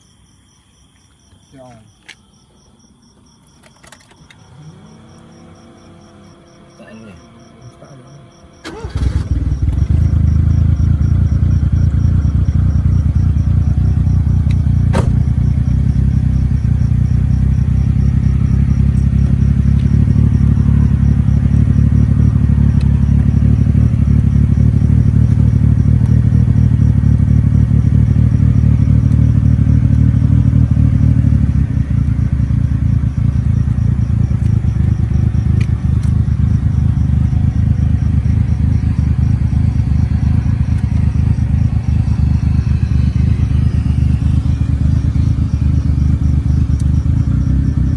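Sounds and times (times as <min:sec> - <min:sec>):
car engine and road noise: 0:02.0 - 0:47.9.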